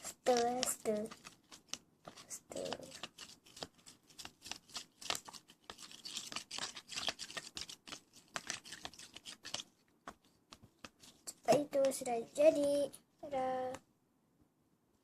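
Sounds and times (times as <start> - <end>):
stirrer scraping slime: 0.0 - 12.8.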